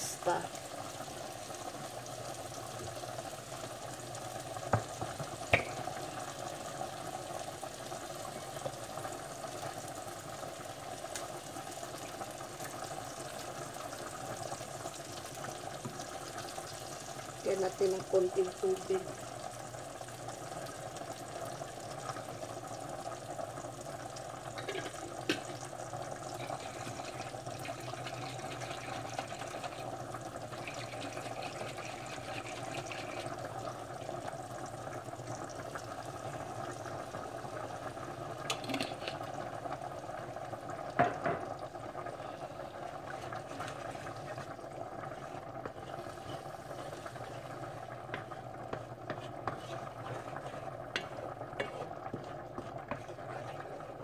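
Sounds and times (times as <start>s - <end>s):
food simmering in a pan: 0.0s - 54.0s.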